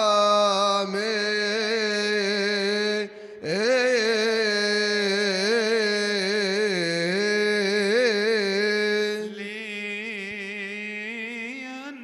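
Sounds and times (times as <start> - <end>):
man singing chant: 0.0 - 12.0.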